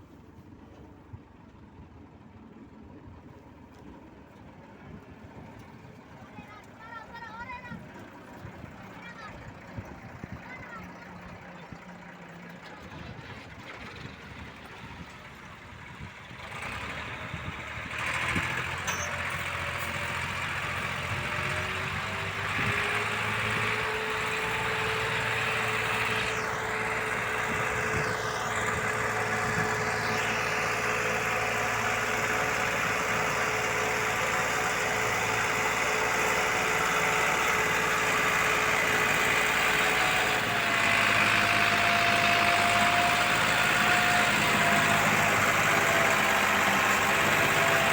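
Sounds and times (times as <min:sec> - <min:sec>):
heavy machinery engine running: 0:04.8 - 0:47.9.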